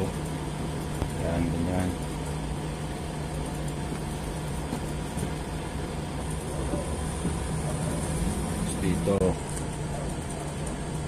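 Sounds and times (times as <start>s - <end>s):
constant low tone: 0.0s - 11.0s
low mechanical hum: 0.0s - 11.0s.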